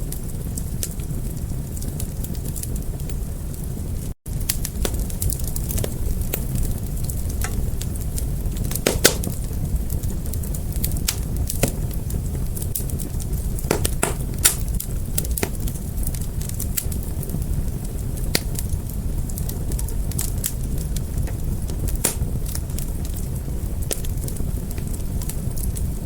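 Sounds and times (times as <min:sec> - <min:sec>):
fire crackling: 0:00.0 - 0:26.0.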